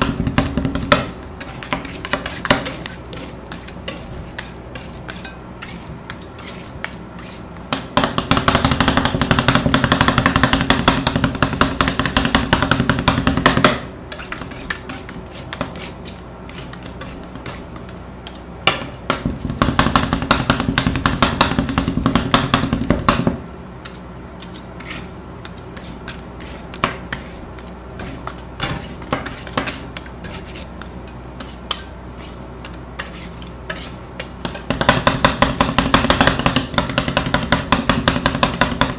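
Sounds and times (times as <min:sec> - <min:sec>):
metal spatulas chopping on cold plate: 0:00.0 - 0:38.9.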